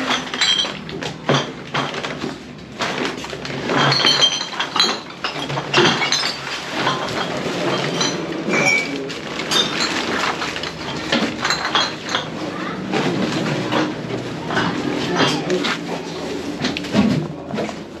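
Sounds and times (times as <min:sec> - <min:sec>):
glass bottles clinking: 0:00.0 - 0:18.0.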